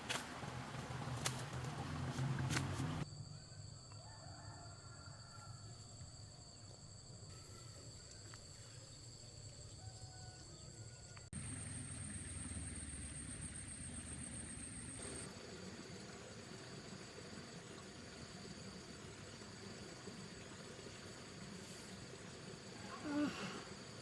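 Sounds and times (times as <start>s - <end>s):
insects trilling: 0.4s - 24.0s.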